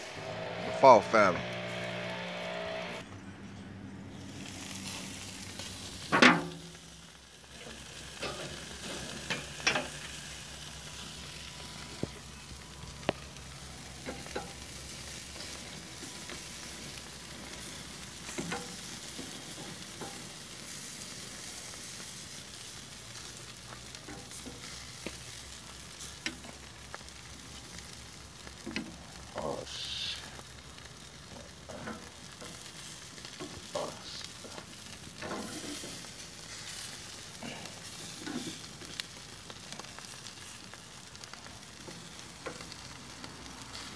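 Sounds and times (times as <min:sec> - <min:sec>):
meat sizzling on a grill: 0:04.1 - 0:43.9.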